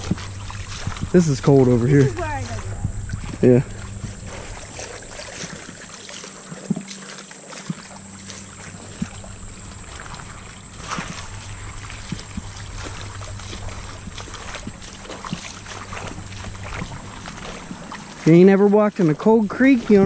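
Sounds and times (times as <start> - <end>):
creek water running: 0.0 - 20.0
footsteps splashing through water: 0.0 - 20.0.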